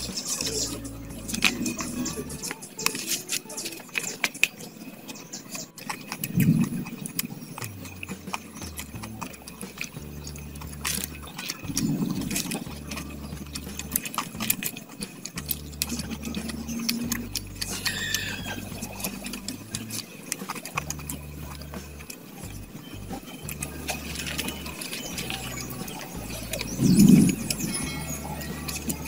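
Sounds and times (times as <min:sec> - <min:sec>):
chewing with wet smacking: 0:00.0 - 0:29.0.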